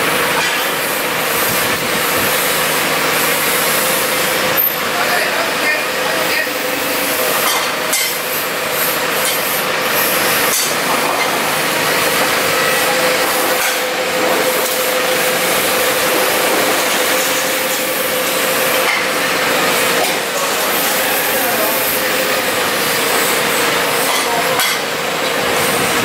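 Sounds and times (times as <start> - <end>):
forklift engine running: 0.0 - 26.0
steady whine: 0.0 - 26.0.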